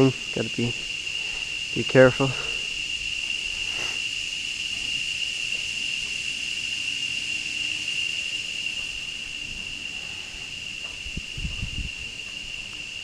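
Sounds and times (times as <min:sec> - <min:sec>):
faint hiss: 0:00.0 - 0:13.0
insects droning: 0:00.0 - 0:13.0.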